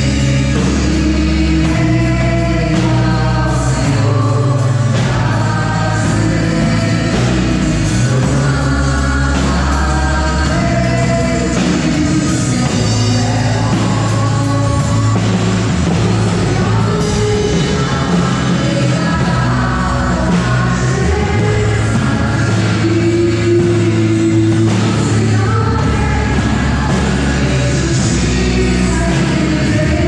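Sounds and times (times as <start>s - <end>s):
held bass notes: 0.0s - 30.0s
worship singing over a band: 0.0s - 30.0s.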